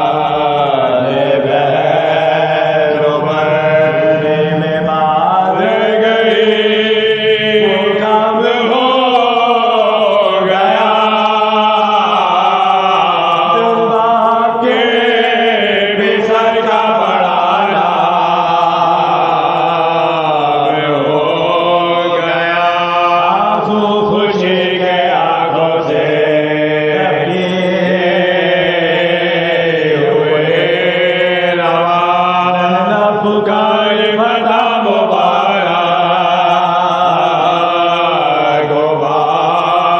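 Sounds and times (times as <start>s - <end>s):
low held vocal drone: 0.0s - 39.9s
unaccompanied voices chanting: 0.0s - 39.9s.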